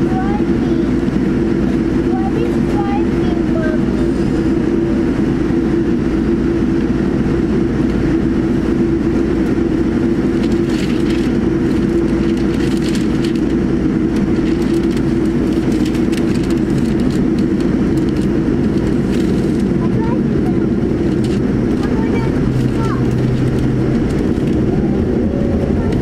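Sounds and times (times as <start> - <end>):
cabin air noise: 0.0 - 26.0
jet engines humming: 0.0 - 26.0.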